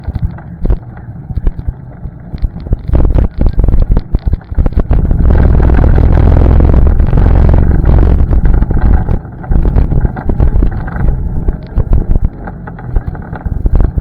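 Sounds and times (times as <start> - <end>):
atv engine rumble: 0.0 - 14.0
knocks and rattles: 0.0 - 14.0.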